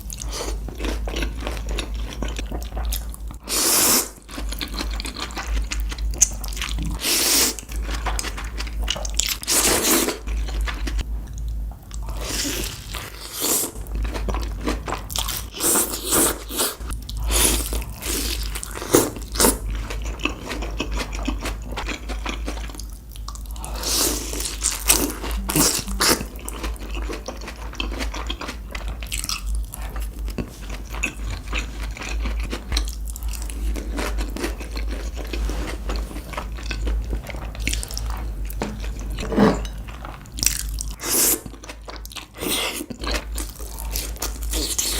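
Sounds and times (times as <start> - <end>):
person chewing crunchy food: 0.0 - 44.9
steady low hum: 4.3 - 44.6.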